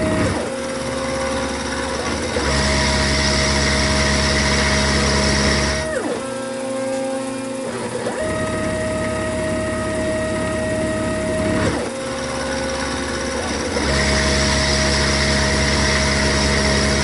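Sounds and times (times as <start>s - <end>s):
milling machine cutting metal: 0.0s - 17.0s.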